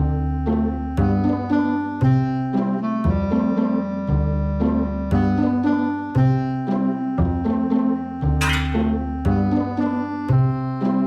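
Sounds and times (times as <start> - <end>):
bright music with bass line: 0.0 - 11.0.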